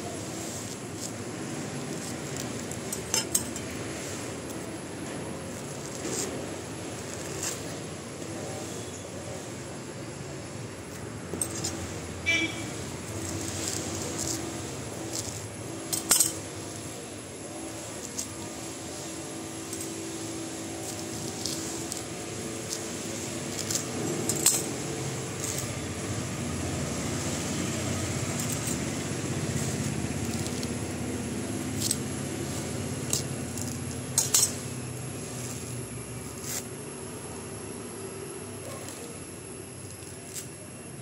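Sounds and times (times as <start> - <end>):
coconut fibres rustling and tearing: 0.0 - 8.4, 10.8 - 37.4, 38.6 - 41.0.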